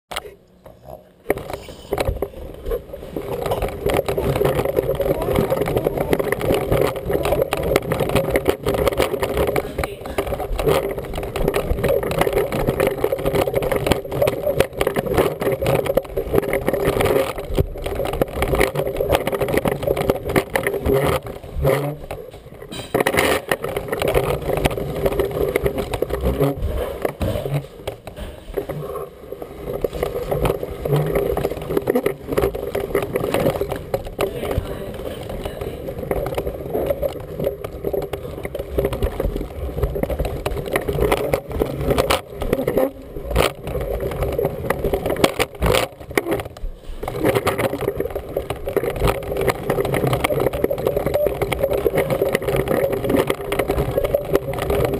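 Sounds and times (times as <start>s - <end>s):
small clicks: 0.1s - 54.9s
walker toy wheels rattling: 0.8s - 54.9s.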